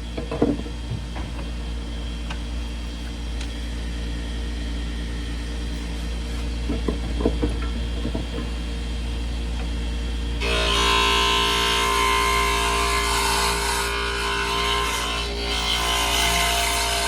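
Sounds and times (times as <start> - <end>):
whining hissing machine noise: 0.0 - 17.0.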